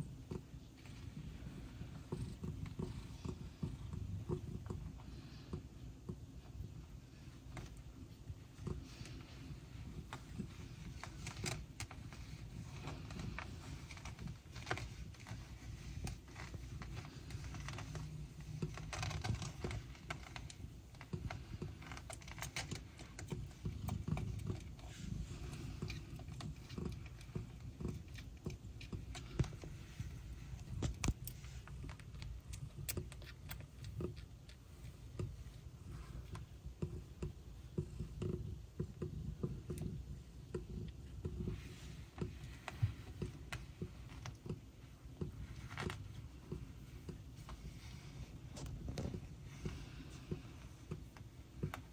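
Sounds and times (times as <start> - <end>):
kittens suckling: 0.0 - 51.9.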